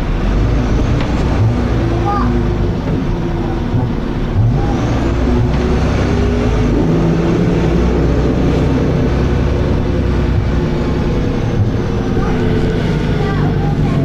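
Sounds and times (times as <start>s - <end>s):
bus diesel engine drone: 0.0s - 14.0s.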